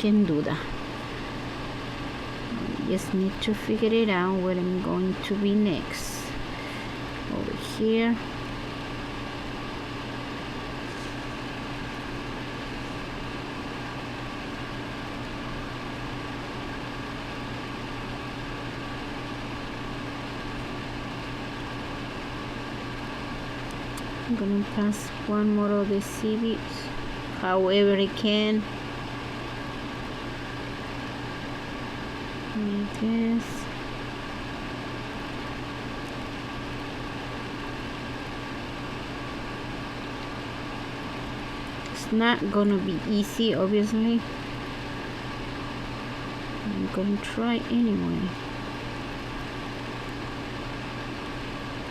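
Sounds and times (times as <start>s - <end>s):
steady machine hum: 0.0s - 51.9s.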